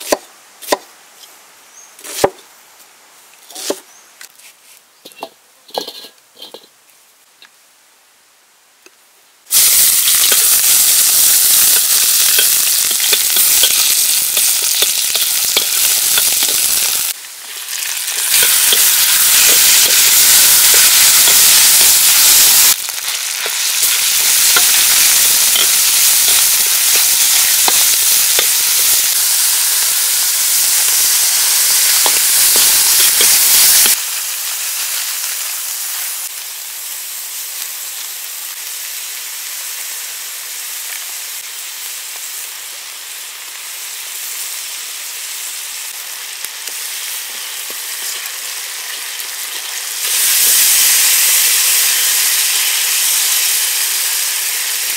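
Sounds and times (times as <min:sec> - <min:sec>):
meat sizzling in a wok: 0:09.5 - 0:54.9.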